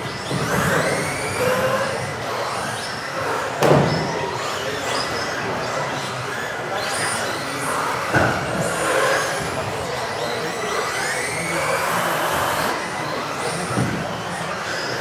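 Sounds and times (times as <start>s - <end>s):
rc car motors whining: 0.0s - 15.0s.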